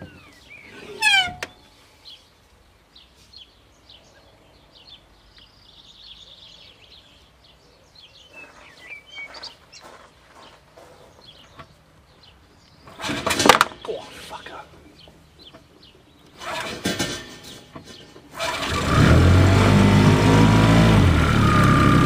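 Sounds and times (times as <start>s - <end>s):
small birds chirping and singing: 0.0s - 18.5s.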